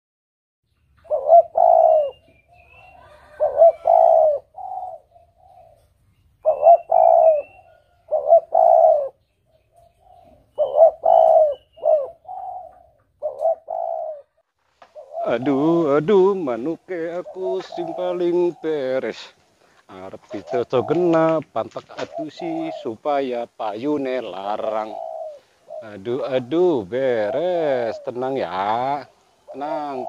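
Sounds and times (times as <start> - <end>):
small birds chirping: 0.6 - 30.0
dove cooing: 1.0 - 30.0.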